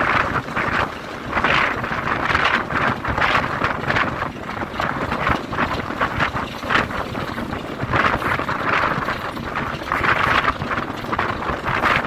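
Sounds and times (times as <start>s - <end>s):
diesel locomotive engine running: 0.0s - 12.0s
train wheels on track: 0.0s - 12.0s
wind buffeting microphone: 0.0s - 12.0s.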